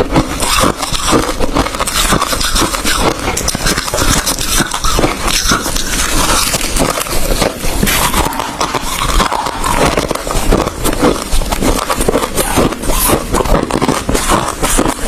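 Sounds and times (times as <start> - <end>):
ice being chewed and crunched: 0.0 - 15.0.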